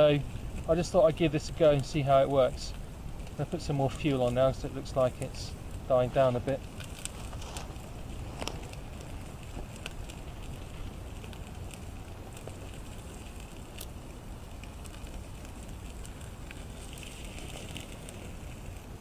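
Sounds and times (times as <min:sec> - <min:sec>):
steady low rumble: 0:00.0 - 0:19.0
wood fire crackling: 0:00.0 - 0:19.0.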